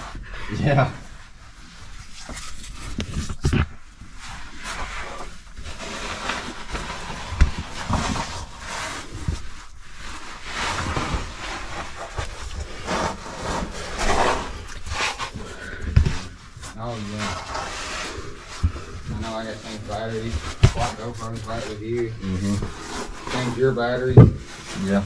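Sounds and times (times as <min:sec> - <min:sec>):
clothing scraping against rock: 0:02.0 - 0:25.0.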